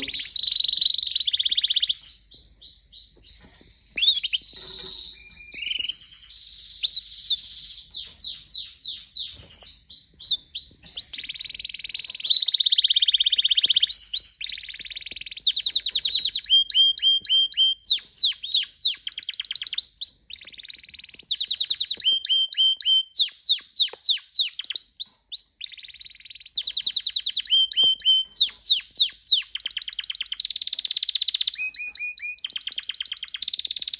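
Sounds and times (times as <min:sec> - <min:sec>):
canary singing trills and whistles: 0:00.0 - 0:33.9.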